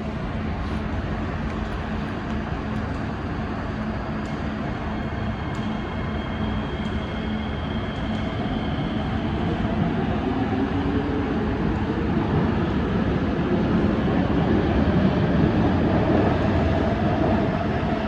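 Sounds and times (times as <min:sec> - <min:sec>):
metro train wheels rumbling: 0:00.0 - 0:18.0.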